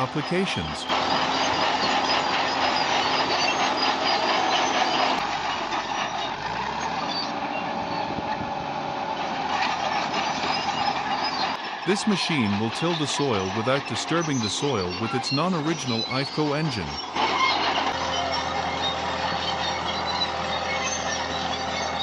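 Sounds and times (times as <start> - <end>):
bulldozer engine running: 0.0 - 22.0.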